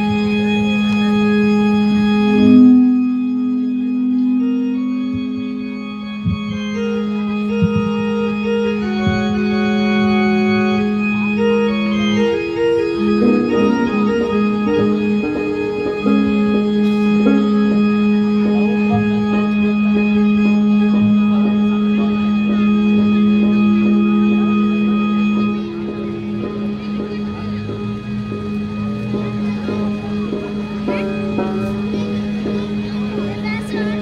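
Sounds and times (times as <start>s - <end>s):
organ-like drone: 0.0s - 34.0s
slow instrumental melody: 0.0s - 34.0s.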